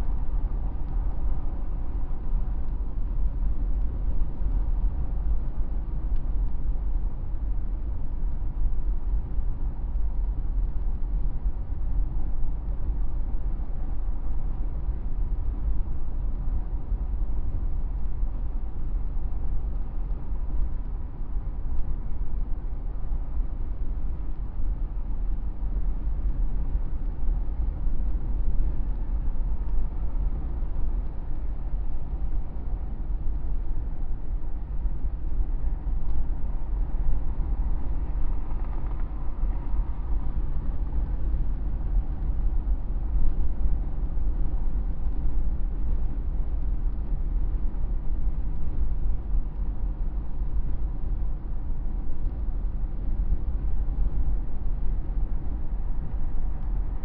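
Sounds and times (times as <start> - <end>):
vehicle road and engine rumble: 0.0 - 57.0.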